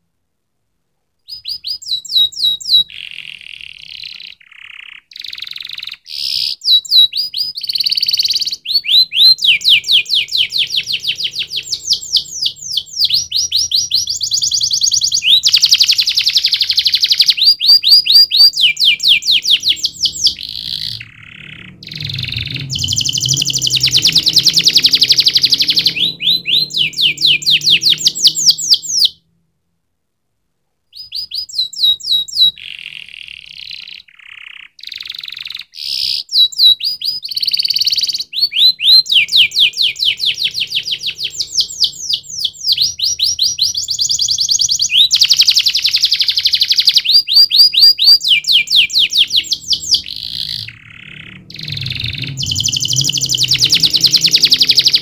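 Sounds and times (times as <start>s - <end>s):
canary singing trills: 1.3s - 29.2s, 30.9s - 55.0s.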